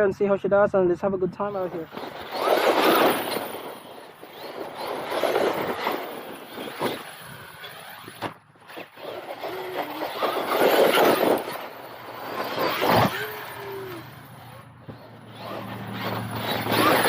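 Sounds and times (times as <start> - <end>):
rc truck motor revving: 1.4 - 17.0.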